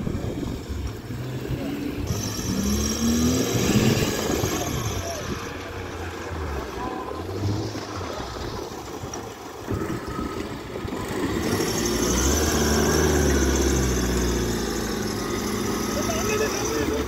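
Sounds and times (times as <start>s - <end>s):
off-road engine under load: 0.0s - 17.0s.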